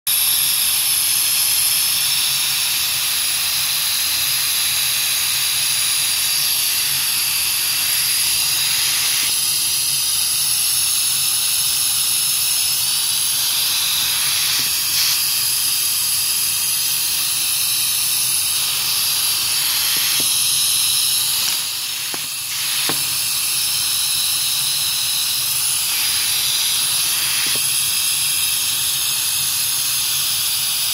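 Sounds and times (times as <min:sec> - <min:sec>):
air hissing through vacuum pick-up: 0:00.1 - 0:30.9.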